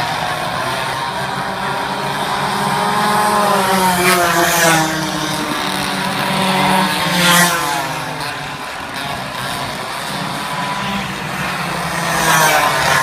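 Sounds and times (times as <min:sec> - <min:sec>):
minibike engines revving past: 0:00.0 - 0:13.0.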